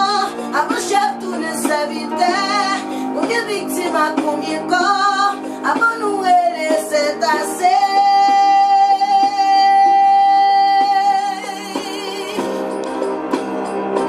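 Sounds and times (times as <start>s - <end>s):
instrumental accompaniment: 0.0s - 14.0s.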